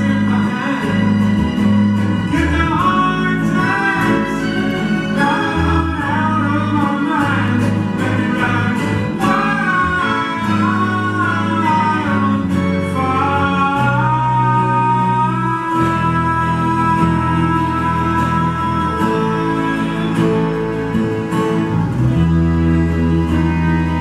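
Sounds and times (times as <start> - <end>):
man singing: 0.0 - 1.4, 2.2 - 21.0
acoustic guitar: 0.0 - 24.0
violins and cello: 0.0 - 24.0.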